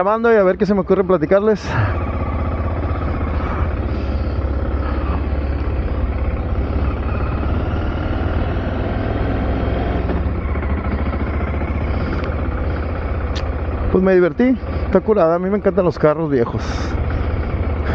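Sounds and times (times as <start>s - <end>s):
car engine and road noise: 0.0s - 17.9s.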